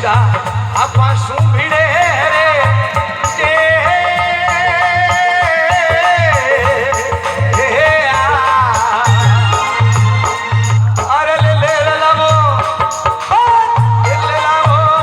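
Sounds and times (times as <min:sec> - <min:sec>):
low drum beat: 0:00.0 - 0:15.0.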